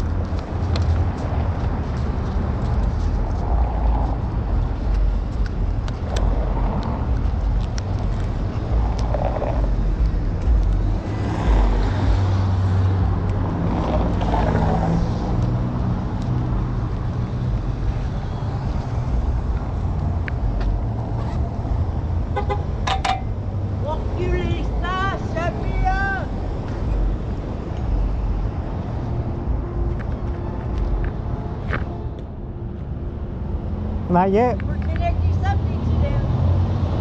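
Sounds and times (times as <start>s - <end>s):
street traffic rumble: 0.0s - 37.0s.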